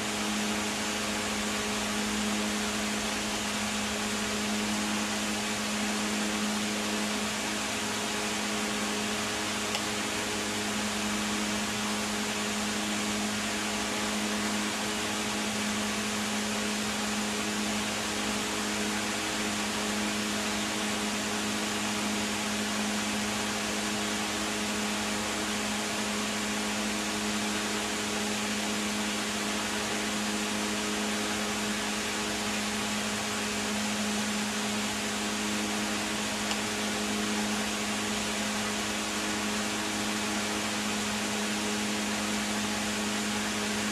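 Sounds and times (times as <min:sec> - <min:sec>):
machine hum: 0:00.0 - 0:43.9.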